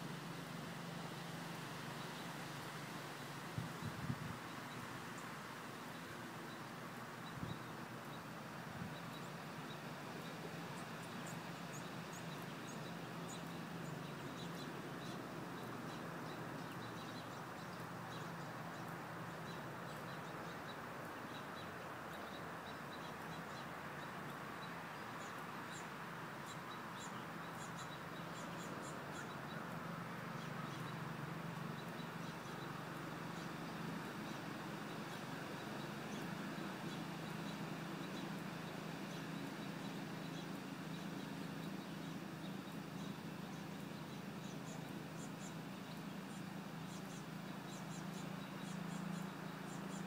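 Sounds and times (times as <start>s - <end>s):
outdoor background hum: 0.0s - 50.0s
small birds chirping: 0.0s - 50.0s.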